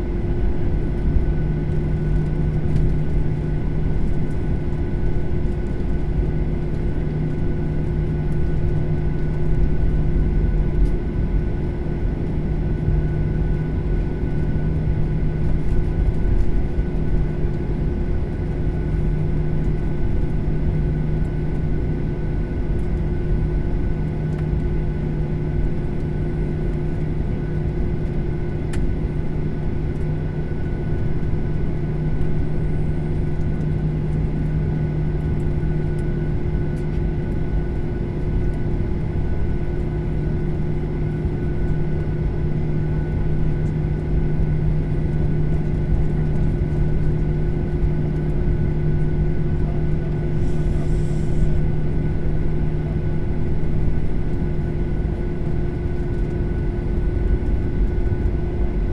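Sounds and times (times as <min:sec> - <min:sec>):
jet engine cabin rumble: 0:00.0 - 0:58.9
steady hums: 0:00.0 - 0:58.9.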